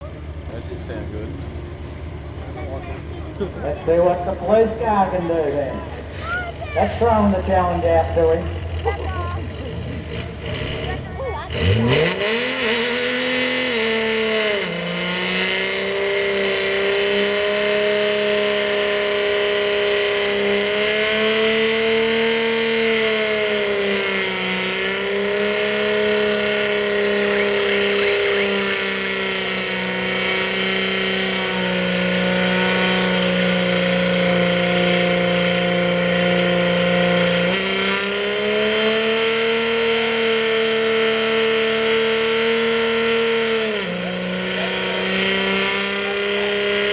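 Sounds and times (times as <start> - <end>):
car engine at high revs: 0.0 - 46.9.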